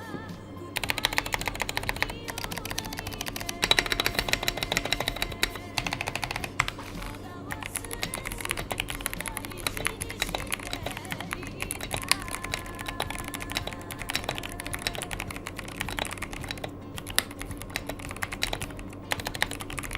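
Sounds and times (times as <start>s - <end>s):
mechanical keyboard typing: 0.8s - 19.9s.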